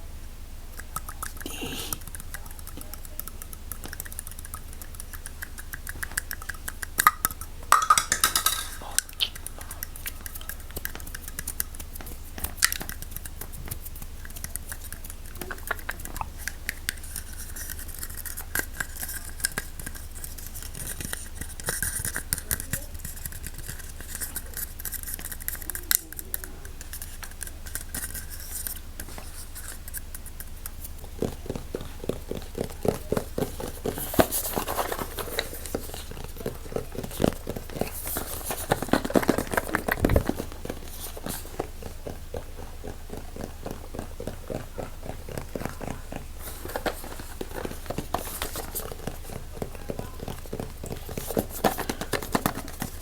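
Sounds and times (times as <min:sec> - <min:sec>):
faint low hum: 0:00.0 - 0:53.0
clicks taps and scratches on objects: 0:00.7 - 0:53.0.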